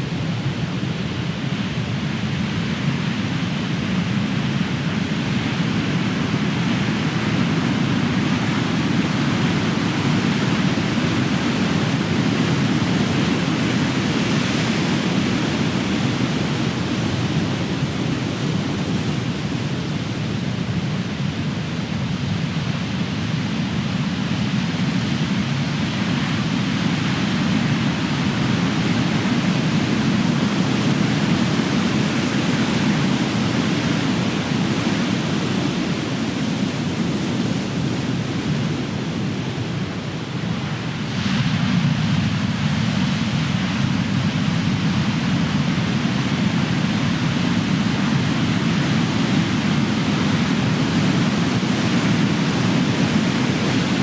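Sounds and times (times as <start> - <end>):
ocean waves breaking on shore: 3.9 - 22.2, 22.9 - 54.0.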